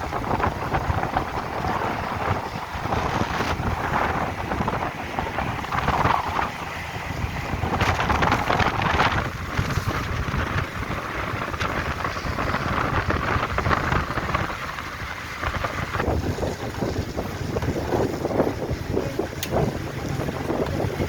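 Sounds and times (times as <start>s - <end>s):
wind and rain on microphone: 0.0s - 21.0s.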